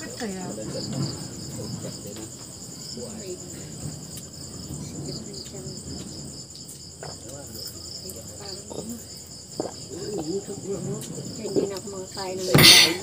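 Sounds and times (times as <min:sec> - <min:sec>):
crickets chirping: 0:00.0 - 0:13.0
faint low voices: 0:00.0 - 0:13.0.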